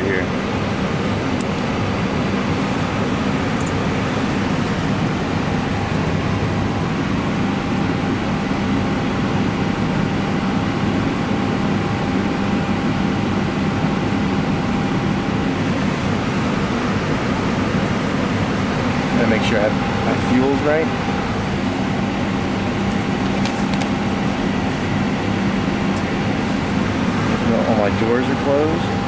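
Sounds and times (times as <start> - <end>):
cockpit hum and whoosh: 0.0 - 29.0
faint steady whine: 0.0 - 29.0.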